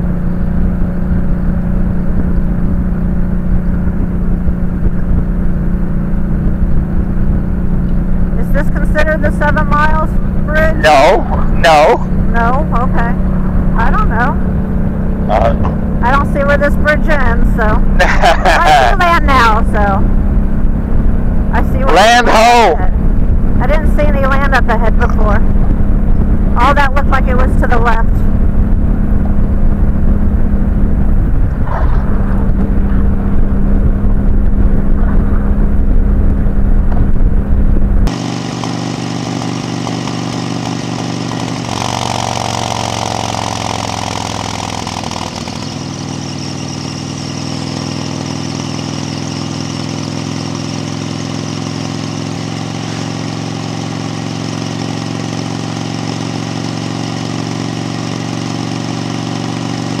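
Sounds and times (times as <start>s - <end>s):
motorcycle engine cruising: 0.0s - 60.0s.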